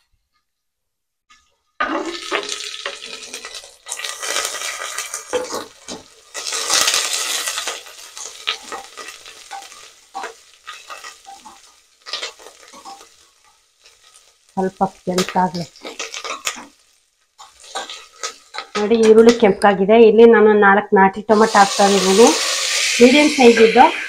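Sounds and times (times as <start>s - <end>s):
onion sizzling in hot oil: 1.8s - 19.9s, 21.3s - 24.0s.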